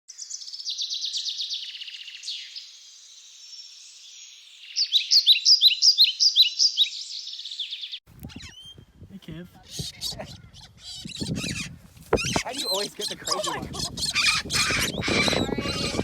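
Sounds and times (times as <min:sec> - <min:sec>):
small birds chirping: 0:00.1 - 0:08.9, 0:09.6 - 0:16.0.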